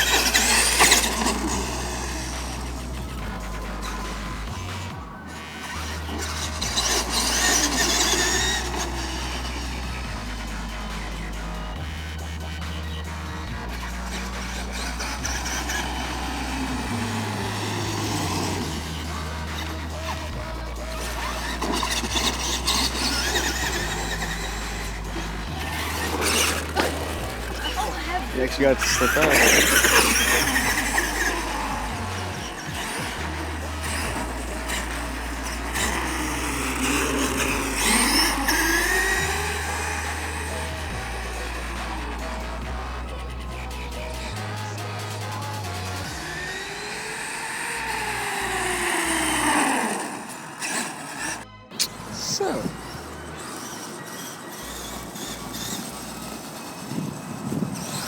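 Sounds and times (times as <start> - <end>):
electric rc car motor whining: 0.0 - 58.0.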